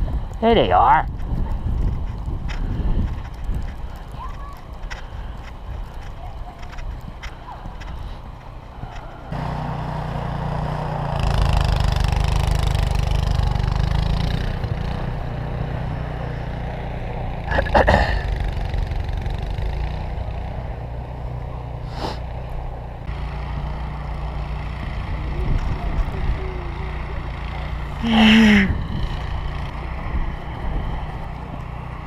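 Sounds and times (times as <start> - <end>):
engine running: 1.2 - 32.0.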